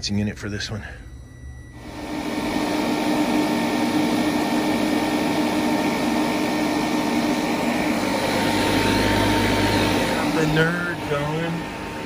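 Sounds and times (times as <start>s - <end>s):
compressor humming: 0.0s - 12.0s
fan rushing: 1.2s - 12.0s.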